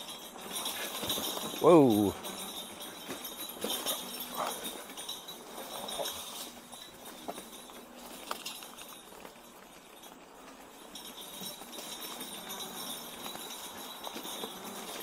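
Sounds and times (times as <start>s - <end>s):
electric trike rattling: 0.0s - 15.0s
light knocks and jingling: 0.0s - 15.0s.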